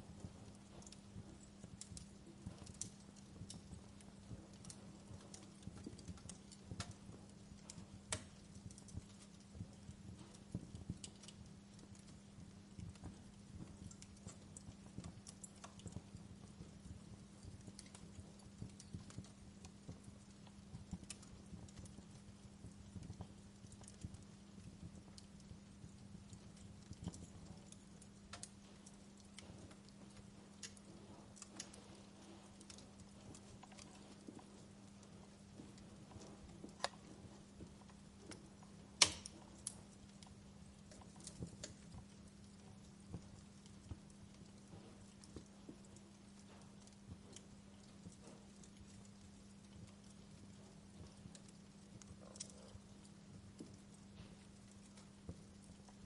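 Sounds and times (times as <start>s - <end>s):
steady low hum: 0.0s - 56.0s
wood fire crackling: 0.0s - 56.0s.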